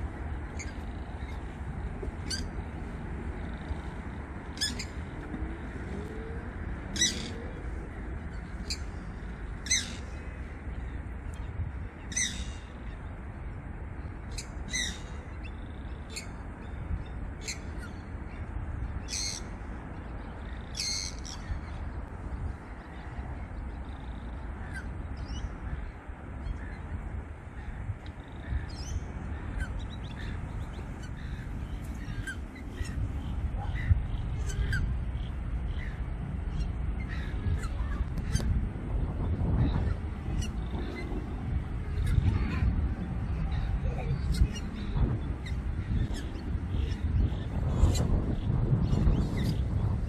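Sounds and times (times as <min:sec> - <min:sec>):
birds high-pitched calls: 0:00.0 - 0:06.2, 0:06.9 - 0:13.1, 0:14.2 - 0:38.6, 0:39.6 - 0:50.0
steady low rumble: 0:00.0 - 0:50.0.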